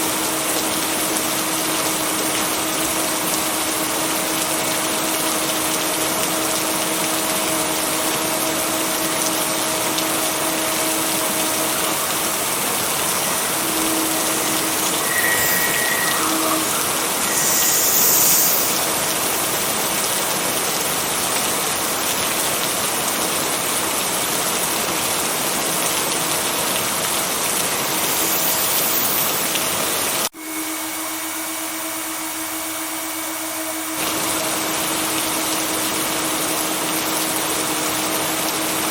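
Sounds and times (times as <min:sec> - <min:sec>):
steady rain hiss: 0:00.0 - 0:30.3, 0:34.0 - 0:38.9.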